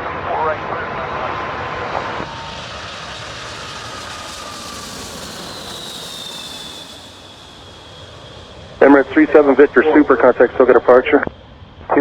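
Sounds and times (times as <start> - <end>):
jet airliner passing: 0.0 - 12.0.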